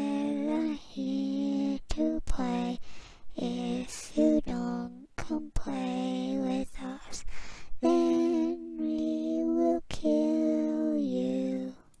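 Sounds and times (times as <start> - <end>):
woman singing slow melody: 0.0 - 12.0.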